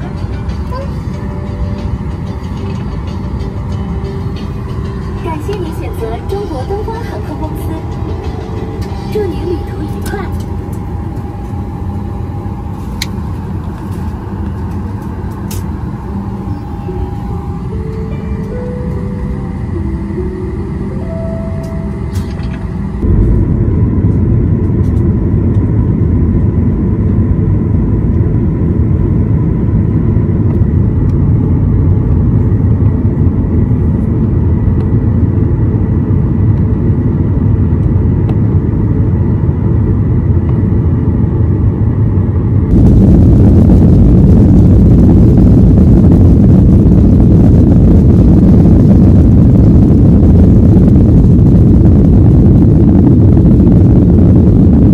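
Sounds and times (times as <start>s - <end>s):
airliner engines and airflow rumble: 0.0s - 54.9s.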